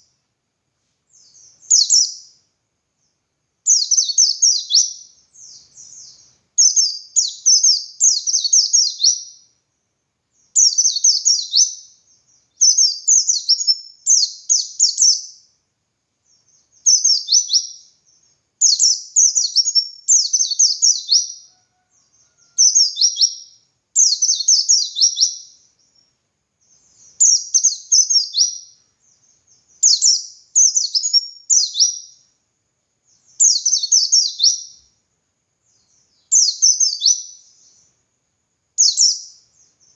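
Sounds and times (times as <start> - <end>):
bird twittering song: 1.1 - 9.7, 10.3 - 15.6, 16.2 - 32.4, 33.0 - 35.0, 35.6 - 38.0, 38.8 - 39.9.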